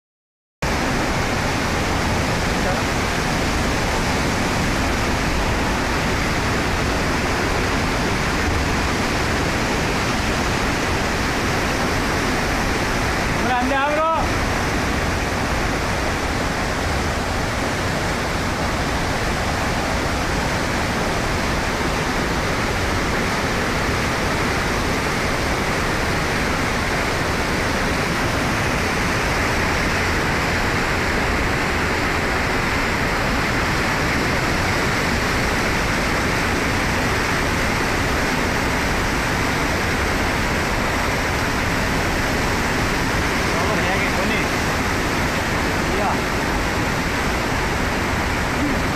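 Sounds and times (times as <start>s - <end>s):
floodwater rushing: 0.6s - 48.9s.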